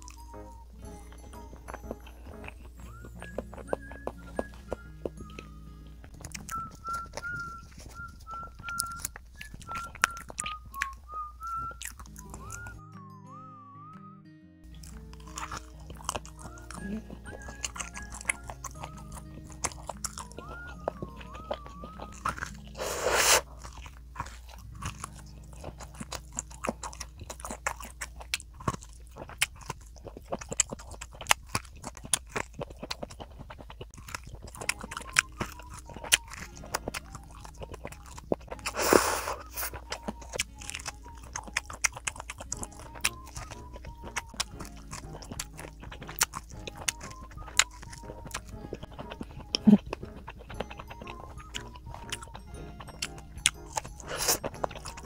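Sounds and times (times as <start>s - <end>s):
chewing corn on the cob: 0.0s - 12.8s, 14.6s - 55.0s.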